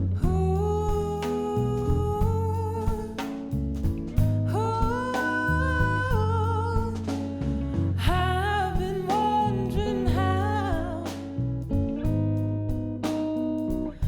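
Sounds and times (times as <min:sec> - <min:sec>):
bass and guitar backing: 0:00.0 - 0:14.0
woman singing soul song: 0:00.0 - 0:14.0.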